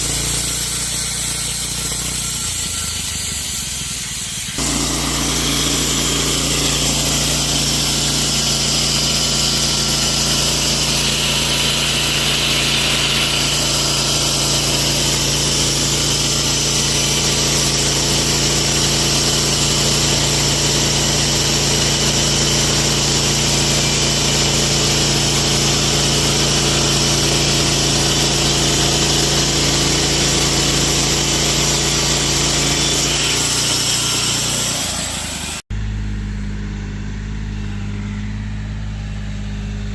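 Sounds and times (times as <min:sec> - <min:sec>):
saw blade hissing in wood: 0:00.0 - 0:35.6
sawmill engine running: 0:00.0 - 0:39.9.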